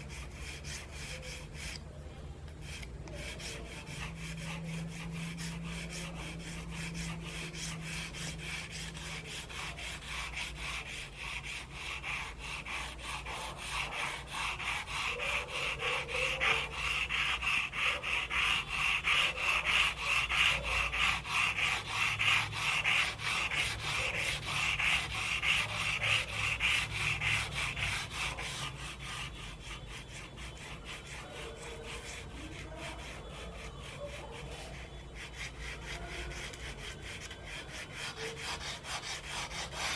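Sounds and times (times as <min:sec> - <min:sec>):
charcoal scratching on paper: 0:00.0 - 0:39.9.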